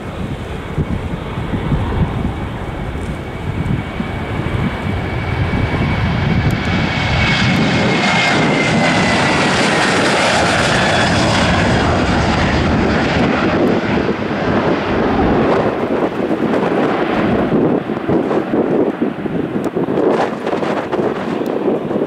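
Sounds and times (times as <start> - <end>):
jet airliner taking off: 0.0 - 22.0.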